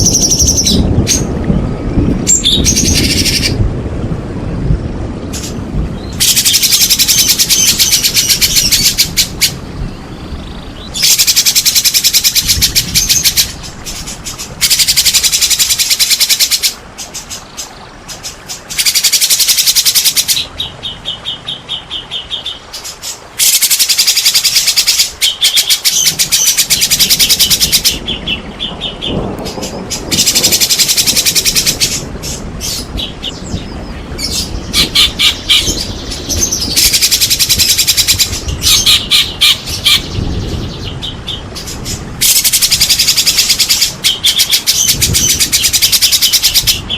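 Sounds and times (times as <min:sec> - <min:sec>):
songbird singing rapid high notes: 0:06.0 - 0:46.9.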